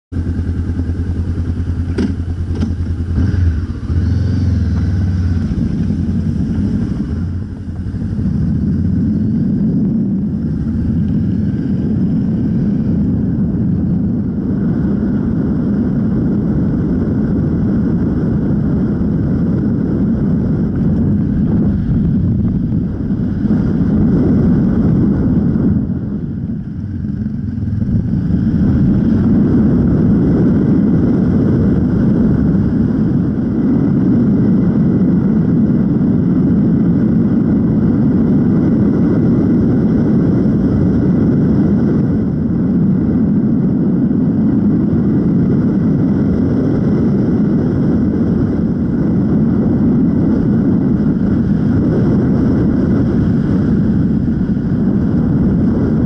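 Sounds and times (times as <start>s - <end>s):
motorcycle engine running: 0.1s - 56.0s.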